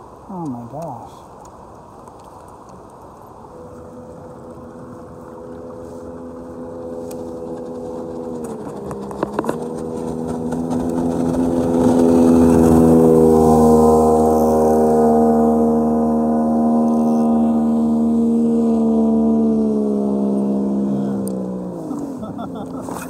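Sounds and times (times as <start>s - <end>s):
motorboat engine running: 3.0s - 23.0s.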